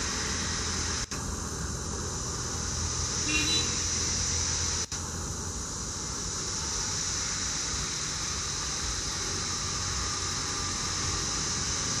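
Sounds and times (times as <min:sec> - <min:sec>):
steady high hiss: 0:00.0 - 0:12.0
train low rumble: 0:00.0 - 0:12.0.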